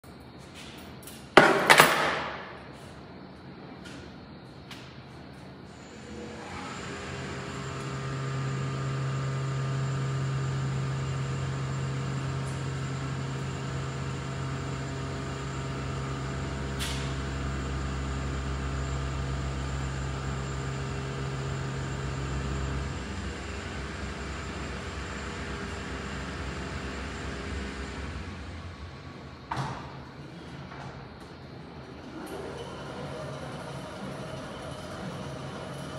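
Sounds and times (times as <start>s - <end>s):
cardio machine humming: 2.3s - 35.9s.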